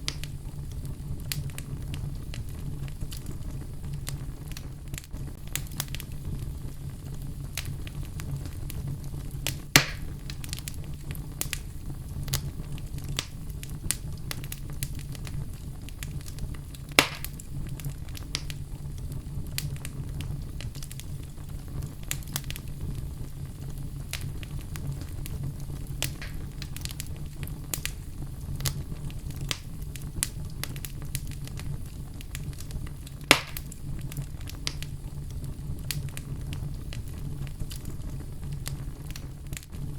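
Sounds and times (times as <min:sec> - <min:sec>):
fire crackling: 0:00.0 - 0:39.9
fire popping: 0:00.0 - 0:39.9
fire rumbling: 0:00.0 - 0:39.9.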